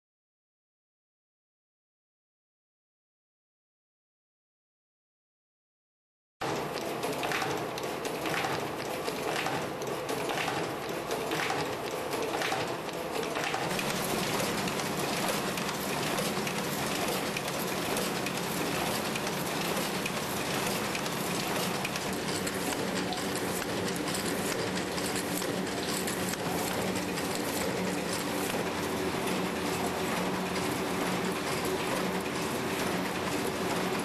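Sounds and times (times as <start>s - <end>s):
envelope inserter machine clattering: 6.4s - 34.0s.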